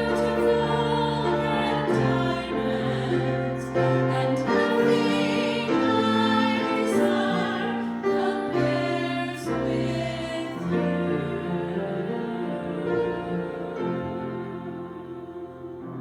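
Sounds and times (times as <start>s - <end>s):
voices singing a hymn: 0.0s - 16.0s.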